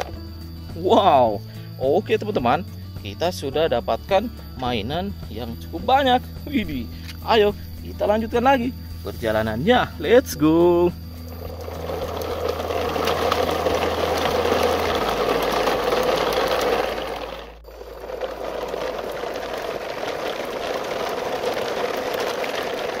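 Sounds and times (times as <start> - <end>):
plastic wheels rattling on dirt: 0.0 - 23.0.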